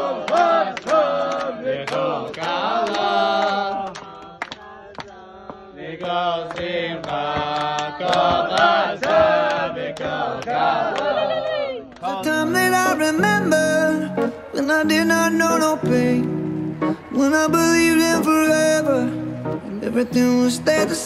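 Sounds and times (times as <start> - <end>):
men singing together: 0.0 - 11.0, 12.0 - 21.0.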